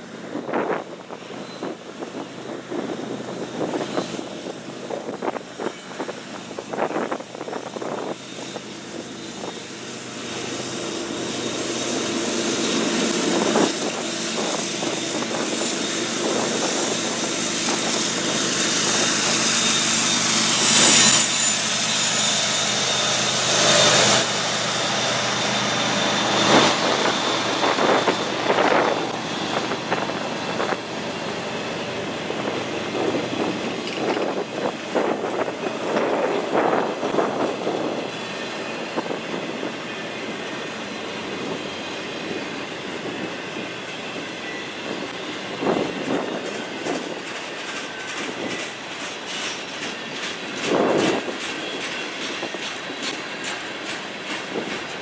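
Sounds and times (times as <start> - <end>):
diesel locomotive engines: 0.0 - 55.0
train wheels clattering over rails: 3.2 - 39.8, 44.8 - 55.0.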